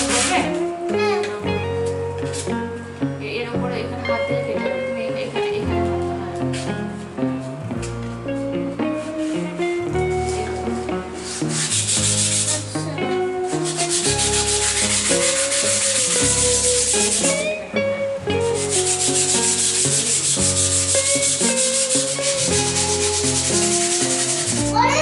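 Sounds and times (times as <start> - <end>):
rapid rubbing strokes: 0.0 - 2.7, 7.4 - 25.0
instrumental background music: 0.0 - 25.0.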